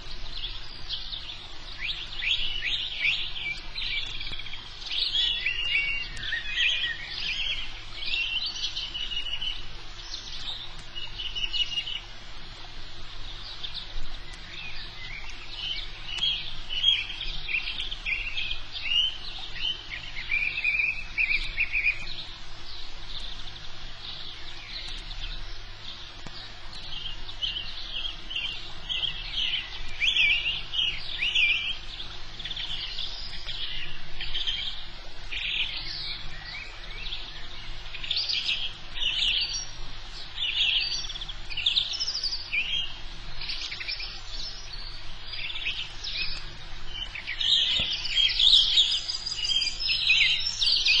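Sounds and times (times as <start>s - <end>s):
faint low hum: 0.0s - 51.0s
small birds chirping: 0.0s - 51.0s.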